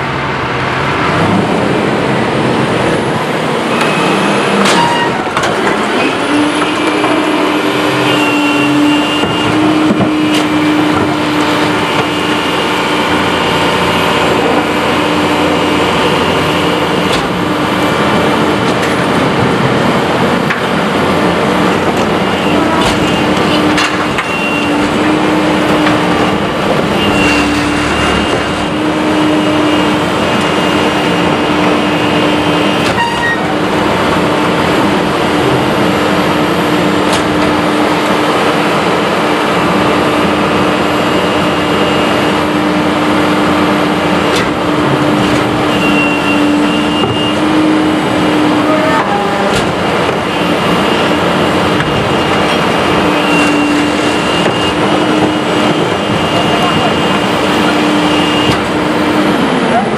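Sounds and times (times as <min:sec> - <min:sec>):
garbage truck engine drone: 0:00.0 - 0:59.9
hydraulic whine: 0:00.8 - 0:59.9.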